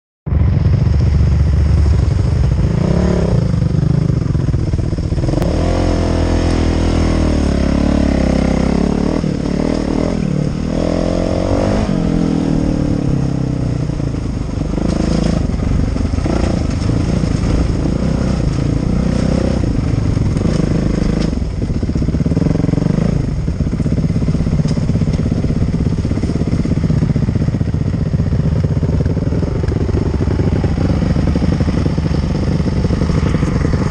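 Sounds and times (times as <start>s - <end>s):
dirt bike engine revving: 1.7s - 33.9s.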